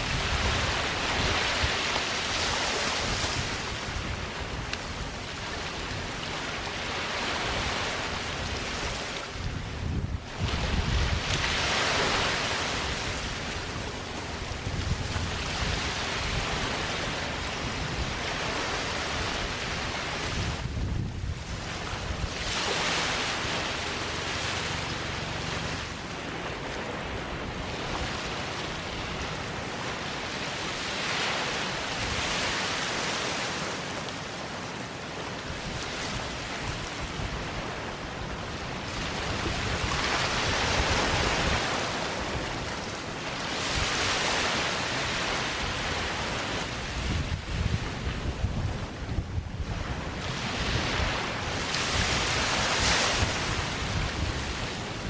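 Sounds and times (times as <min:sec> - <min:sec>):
wind noise on microphone: 0:00.0 - 0:33.8, 0:35.4 - 0:55.0
small waves breaking on beach: 0:00.0 - 0:55.0.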